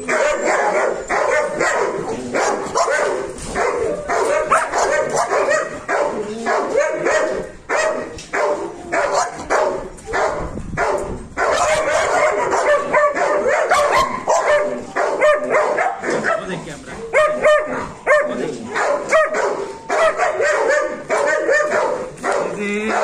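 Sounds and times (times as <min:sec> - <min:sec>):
dog barking and yelping: 0:00.0 - 0:23.0.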